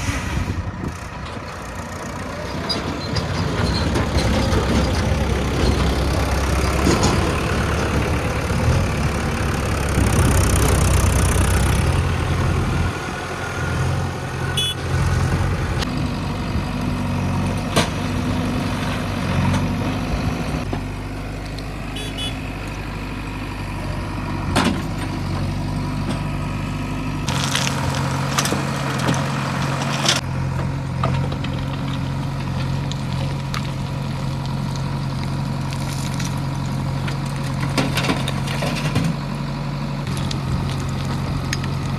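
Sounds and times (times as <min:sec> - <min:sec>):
heavy diesel engine: 0:00.0 - 0:41.9.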